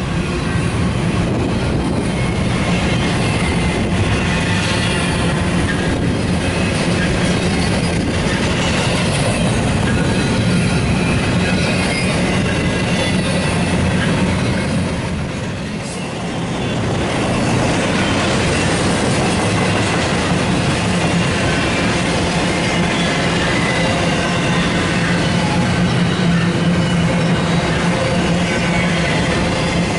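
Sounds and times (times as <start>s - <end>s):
freight train wheels on rail: 0.0s - 29.9s.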